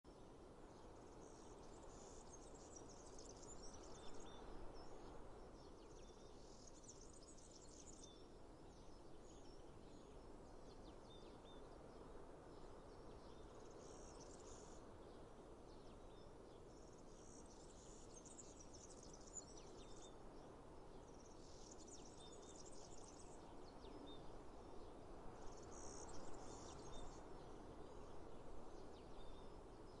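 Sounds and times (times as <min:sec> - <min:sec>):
soft steady background hiss: 0:00.0 - 0:30.0.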